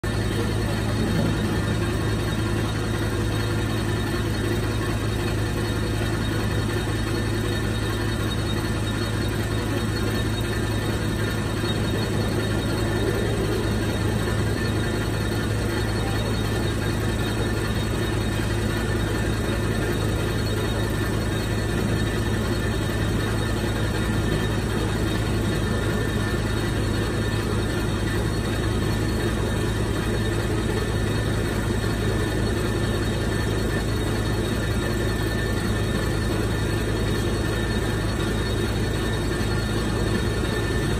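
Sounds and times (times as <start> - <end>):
boring mill running: 0.0 - 40.9
machine hum and whir: 0.0 - 40.9
faint high whine: 0.1 - 40.9.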